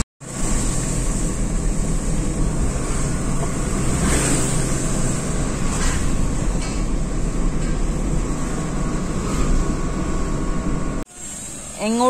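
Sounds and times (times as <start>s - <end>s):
car road and wind noise: 0.0s - 11.1s.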